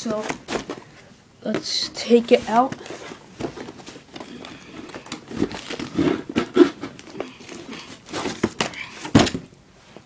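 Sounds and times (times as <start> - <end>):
cardboard packaging rustling: 0.0 - 1.0, 2.1 - 9.4.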